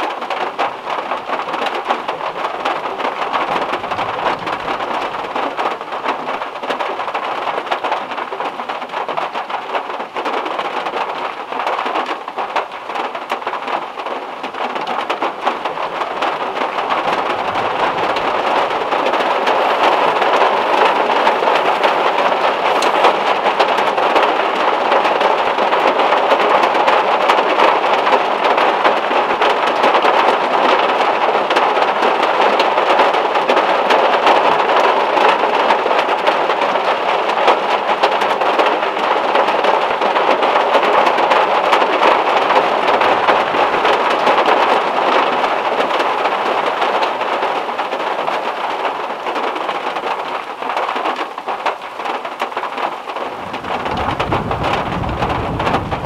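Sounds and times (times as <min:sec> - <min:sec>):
heavy rain on metal roof: 0:00.0 - 0:56.0.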